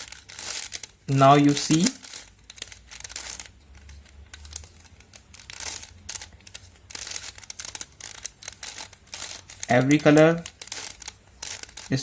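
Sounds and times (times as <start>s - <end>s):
puzzle cube plastic clicks: 0.0s - 12.0s.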